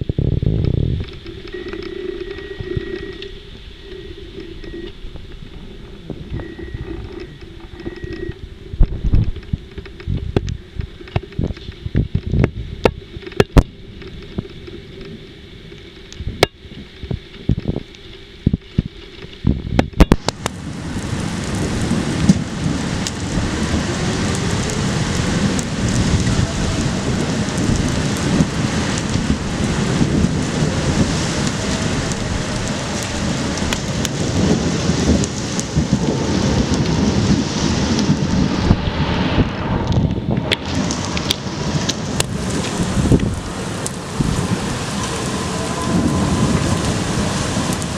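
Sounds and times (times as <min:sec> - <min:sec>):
heavy rain downpour: 0:00.0 - 0:47.9.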